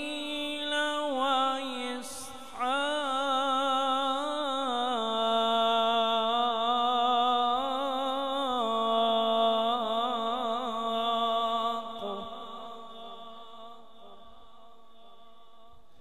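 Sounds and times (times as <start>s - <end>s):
man reciting in melodic chant: 0.0s - 16.0s.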